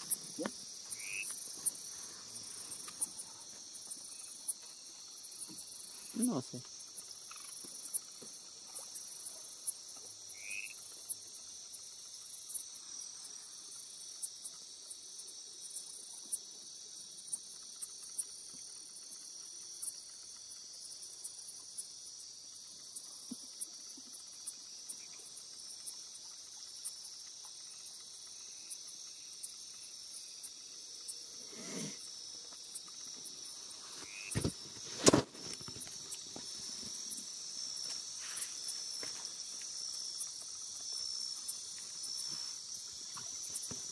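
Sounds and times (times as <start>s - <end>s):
night insects chorus: 0.0s - 43.9s.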